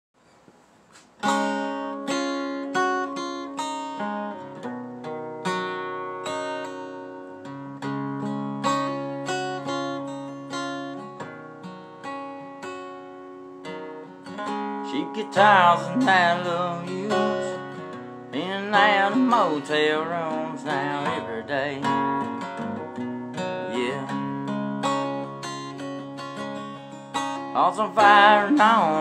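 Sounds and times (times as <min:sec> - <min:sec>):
acoustic guitar chords: 0:01.2 - 0:29.0.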